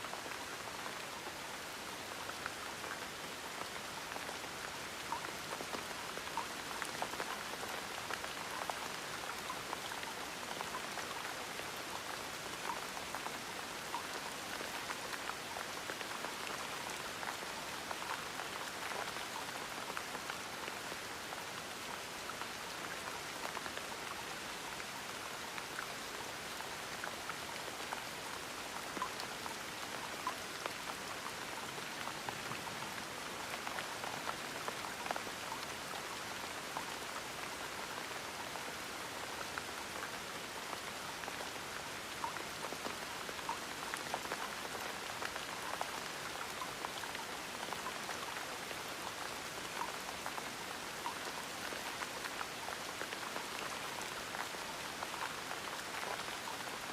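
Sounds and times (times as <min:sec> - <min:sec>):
steady gentle rain: 0:00.0 - 0:56.9.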